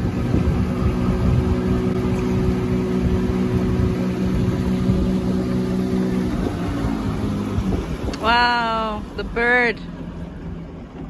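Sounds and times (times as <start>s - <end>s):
motorboat engine running: 0.0s - 11.0s
water noise: 0.0s - 11.0s
wind: 0.0s - 11.0s.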